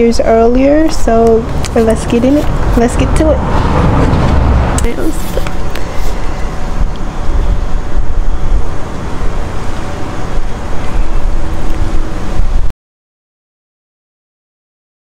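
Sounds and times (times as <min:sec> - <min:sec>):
loud rumbling noise: 0:00.0 - 0:12.7.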